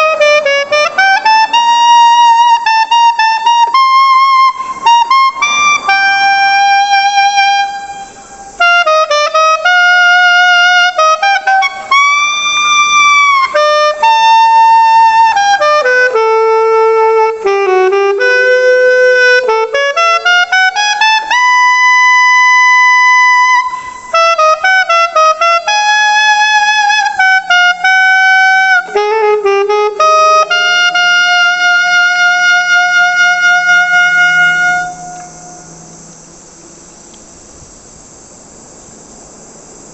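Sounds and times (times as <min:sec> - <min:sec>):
alto saxophone melody: 0:00.0 - 0:38.3.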